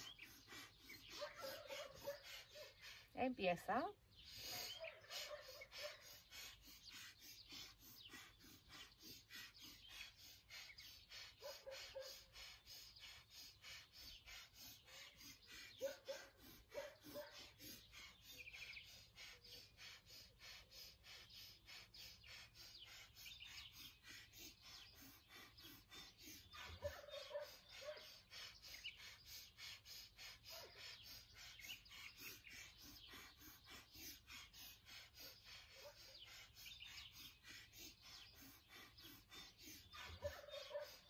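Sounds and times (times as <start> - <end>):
birds calling: 0.0 - 41.0
rapid puffs of breath: 0.0 - 41.0.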